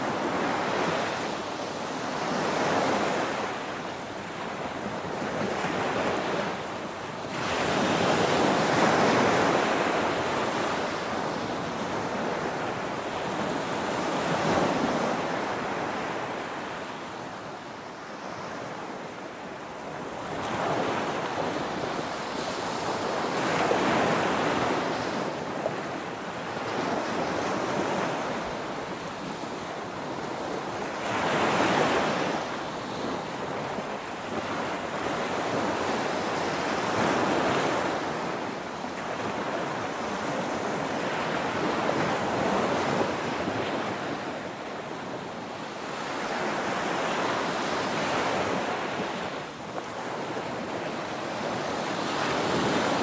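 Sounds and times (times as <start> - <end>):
small waves washing up a beach: 0.0 - 53.0.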